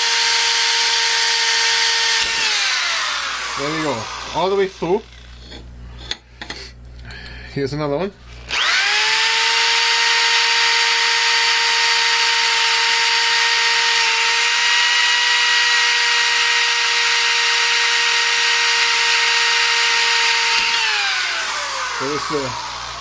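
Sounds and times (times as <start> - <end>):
electric drill whining: 0.0 - 6.2, 8.4 - 23.0.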